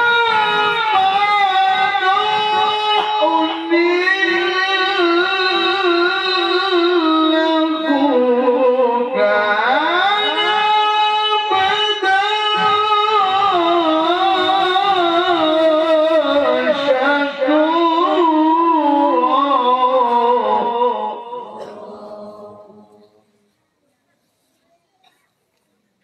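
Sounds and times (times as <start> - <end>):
man chanting melodically: 0.0 - 23.2.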